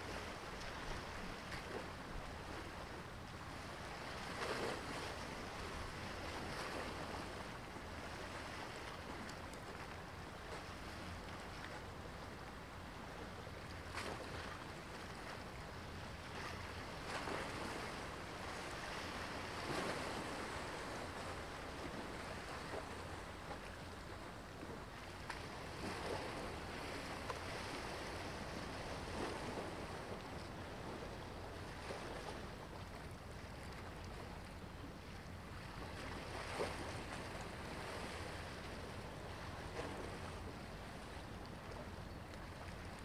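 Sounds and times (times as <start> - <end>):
wind rumble on open water: 0.0 - 43.0.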